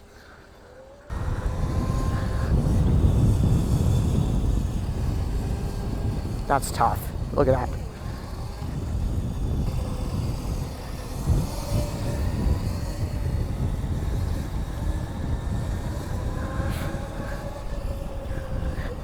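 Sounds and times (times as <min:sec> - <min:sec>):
wind buffeting microphone: 0:01.1 - 0:19.0.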